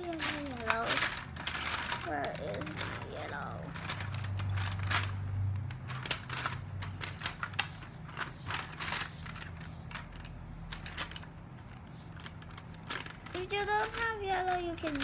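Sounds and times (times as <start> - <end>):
low steady hum: 0.0 - 15.0
plastic markers clattering: 0.0 - 15.0.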